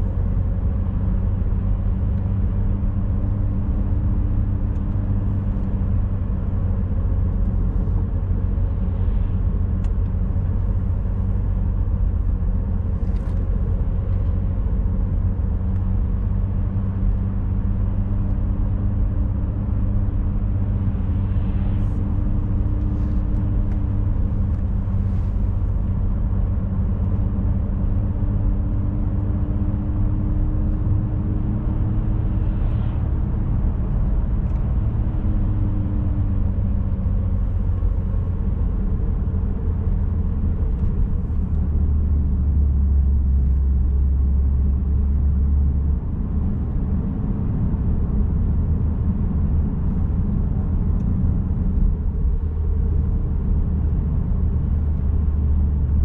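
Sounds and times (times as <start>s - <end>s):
car engine rumble: 0.0s - 56.0s
engine hum: 0.0s - 56.0s
road noise: 0.0s - 56.0s.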